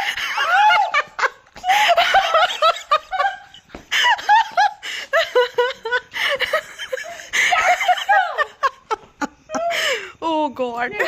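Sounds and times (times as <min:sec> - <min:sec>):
young woman laughing: 0:00.0 - 0:10.0.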